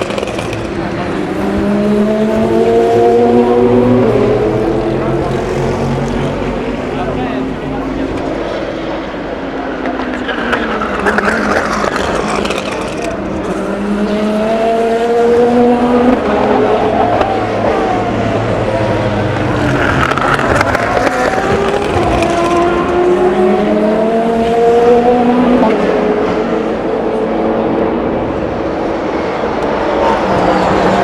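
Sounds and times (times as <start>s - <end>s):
race car engines accelerating: 0.0s - 31.0s
tyre and exhaust rush: 0.0s - 31.0s.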